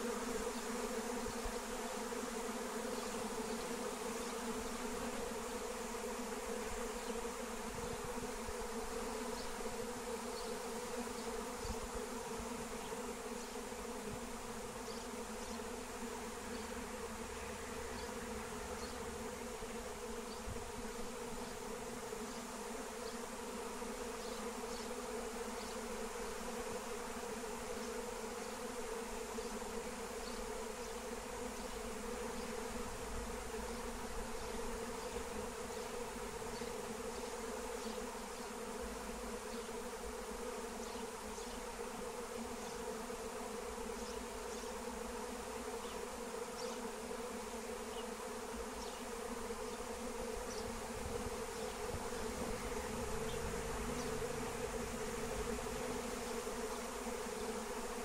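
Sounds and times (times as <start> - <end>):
bee swarm buzzing: 0.0 - 58.0.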